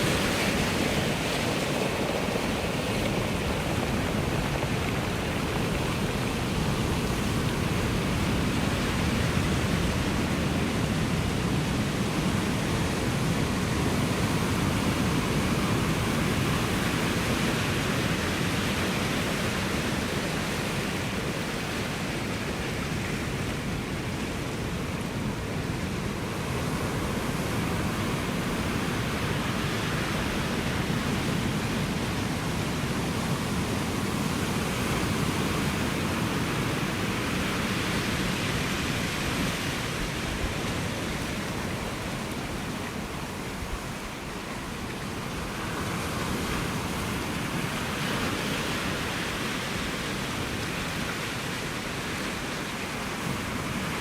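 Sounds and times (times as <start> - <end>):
ocean surf washing on shore: 0.0 - 54.0.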